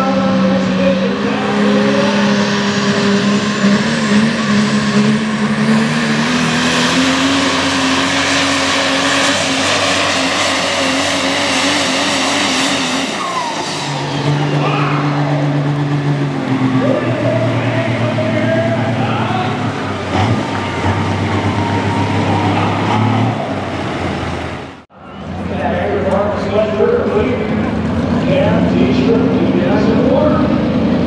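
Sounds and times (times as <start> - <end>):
diesel engine at full throttle: 0.0 - 31.0.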